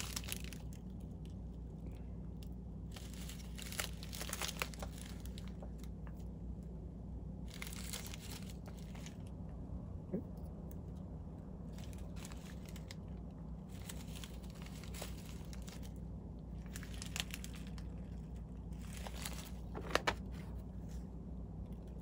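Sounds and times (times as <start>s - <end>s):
plastic bag crinkling: 0.0s - 6.3s, 7.4s - 9.5s, 11.5s - 21.1s
low steady hum: 0.0s - 22.0s.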